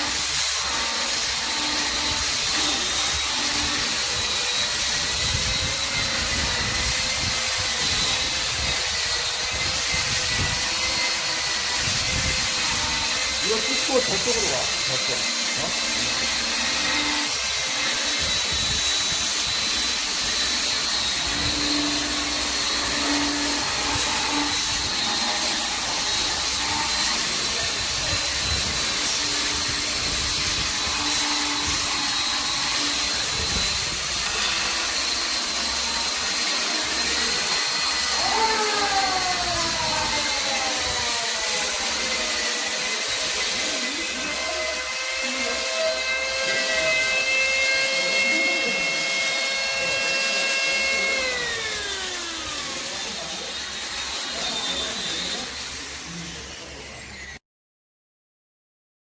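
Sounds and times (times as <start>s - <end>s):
machine motor whirring: 0.0s - 57.4s.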